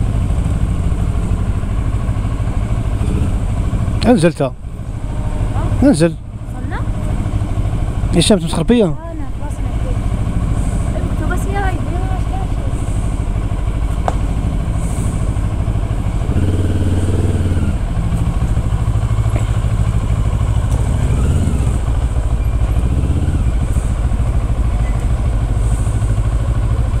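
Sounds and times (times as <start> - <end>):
motorcycle engine running: 0.0 - 27.0
other motorcycles running: 0.0 - 27.0.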